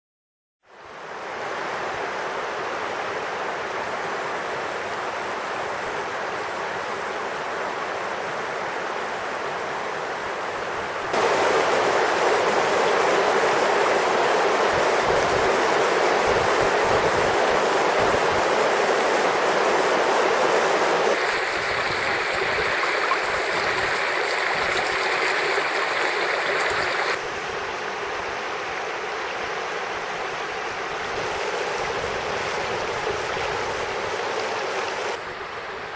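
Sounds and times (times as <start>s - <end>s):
river water rushing over stones: 1.1s - 35.2s.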